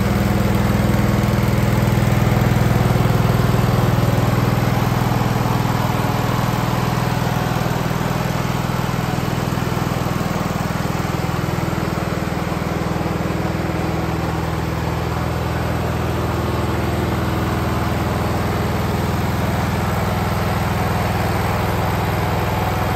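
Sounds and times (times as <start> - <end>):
lawn tractor engine running: 0.0 - 22.9.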